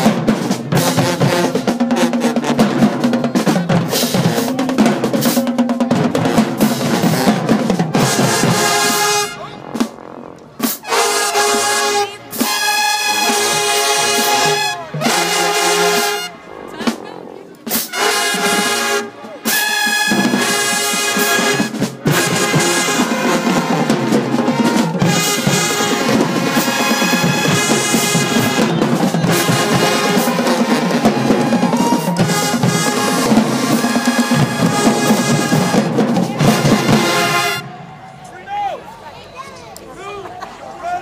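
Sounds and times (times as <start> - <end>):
snare and tenor drums: 0.0 - 37.6
marching band brass: 0.0 - 39.0.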